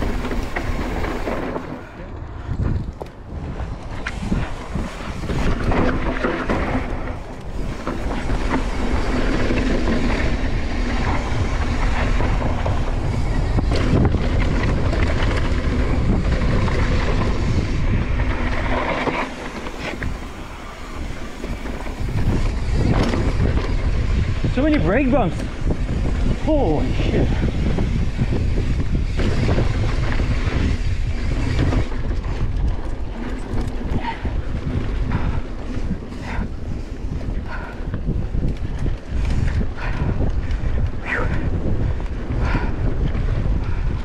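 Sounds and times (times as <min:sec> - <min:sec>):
bike rattling and knocking: 0:00.0 - 0:44.0
bike tyres on dirt: 0:00.0 - 0:44.0
wind buffeting microphone: 0:00.0 - 0:44.0.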